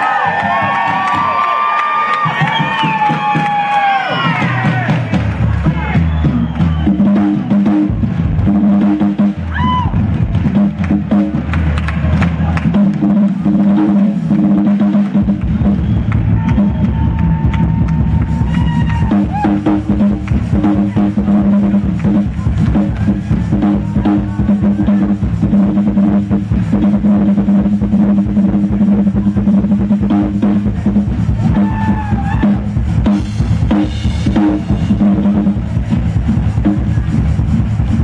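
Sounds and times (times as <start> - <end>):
drum kit solo: 0.0 - 38.0.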